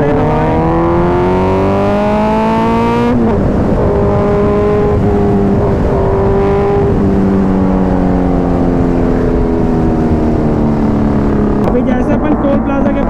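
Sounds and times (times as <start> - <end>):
motorcycle engine at steady revs: 0.0 - 13.0
wind and road rush: 0.0 - 13.0.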